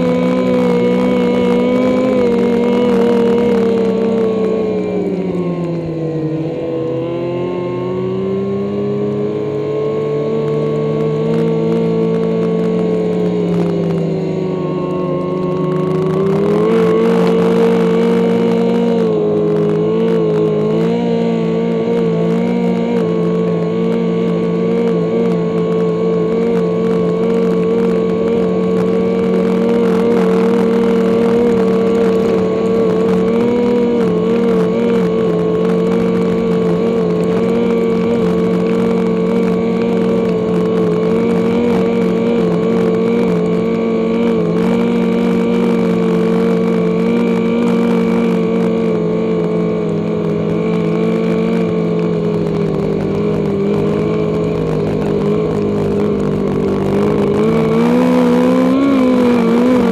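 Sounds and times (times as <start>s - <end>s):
snowmobile engine running hard: 0.0s - 59.9s.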